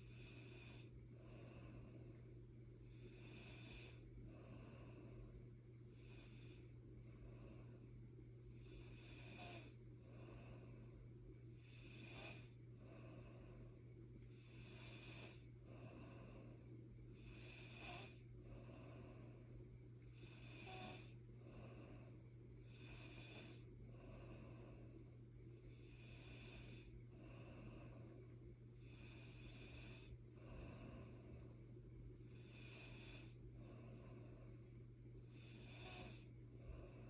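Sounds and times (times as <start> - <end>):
faint wheezy snoring: 0.0 - 7.9, 8.5 - 37.0
steady low hum: 0.0 - 37.0.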